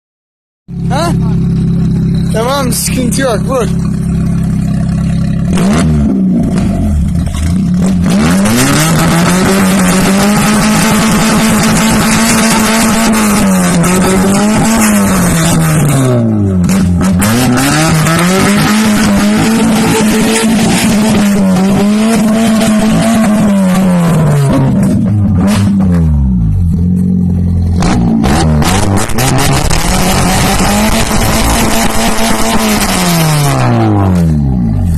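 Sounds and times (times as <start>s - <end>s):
car engine revving loud exhaust: 0.7s - 34.9s.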